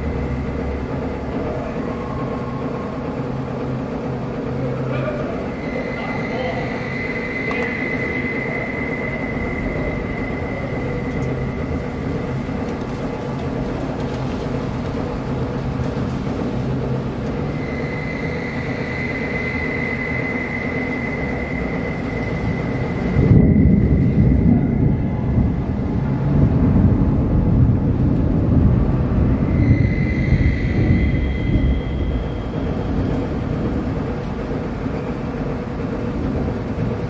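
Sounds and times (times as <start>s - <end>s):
thin high whine: 0.0s - 26.3s, 28.9s - 37.0s.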